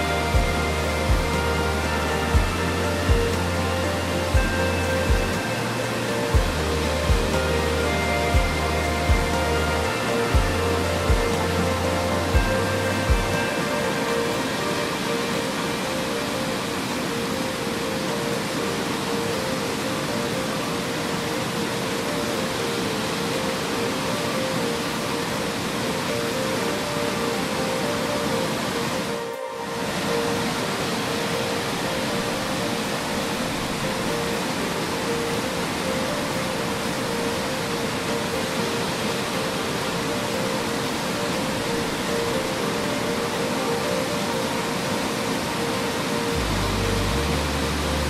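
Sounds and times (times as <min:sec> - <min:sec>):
soft relaxation music: 0:00.0 - 0:48.0
waterfall rushing: 0:00.0 - 0:48.0.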